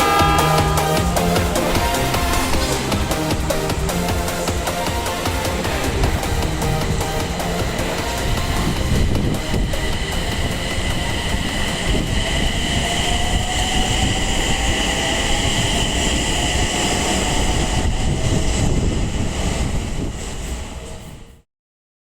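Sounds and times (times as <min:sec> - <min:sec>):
electric train rumble and whine: 0:00.0 - 0:21.5.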